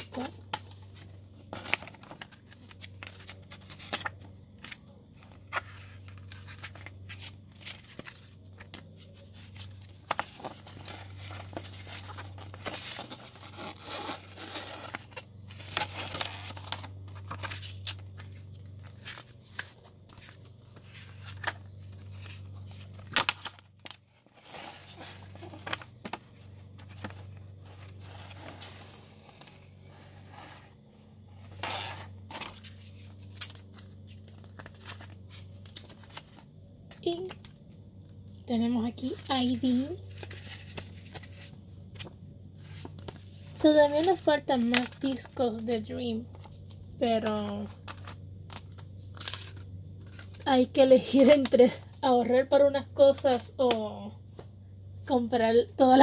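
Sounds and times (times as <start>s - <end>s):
steady low hum: 0.0s - 56.0s
paper rustling: 0.1s - 30.7s, 31.3s - 37.4s, 39.1s - 45.8s, 47.2s - 50.4s.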